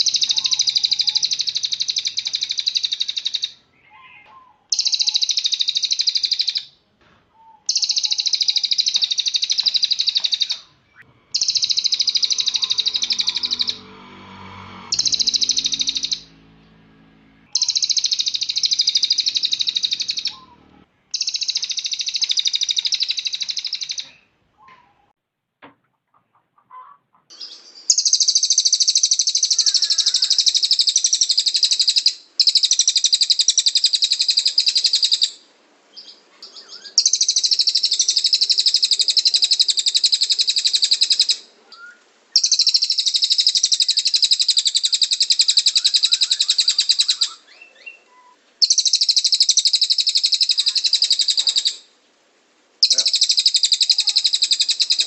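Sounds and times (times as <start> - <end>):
songbird fast trilling song: 0.0 - 6.8, 7.4 - 16.6, 17.5 - 24.2, 27.3 - 51.9, 52.8 - 55.0.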